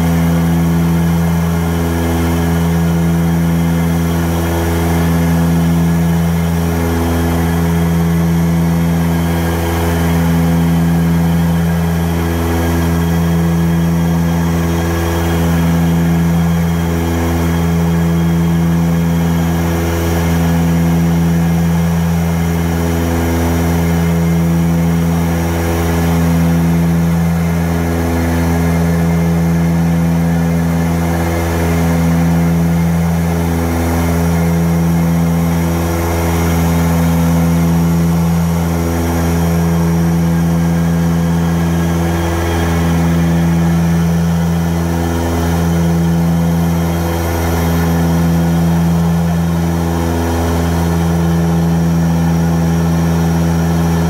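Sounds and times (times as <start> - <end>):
turboprop engines droning in cabin: 0.0 - 54.0.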